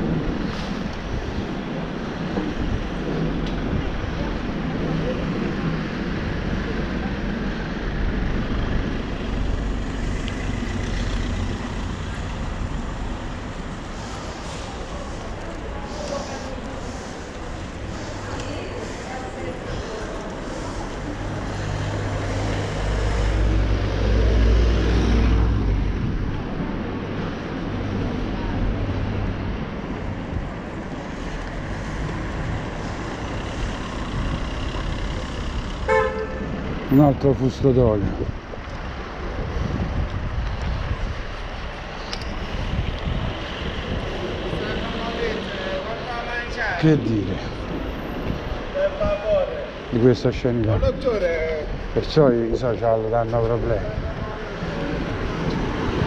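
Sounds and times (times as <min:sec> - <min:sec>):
road and wind noise: 0:00.0 - 0:56.0.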